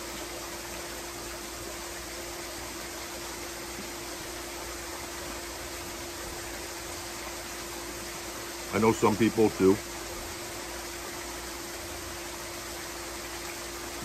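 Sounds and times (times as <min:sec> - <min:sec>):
waterfall splashing into pool: 0:00.0 - 0:14.0.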